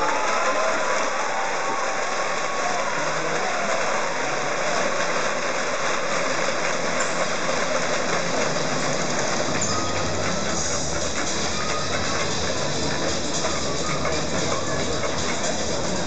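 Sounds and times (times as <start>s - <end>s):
arena crowd din: 0.0s - 16.0s.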